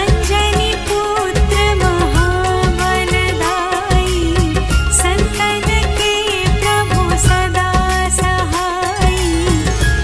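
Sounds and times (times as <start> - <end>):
devotional music with drum and bass: 0.0 - 10.0.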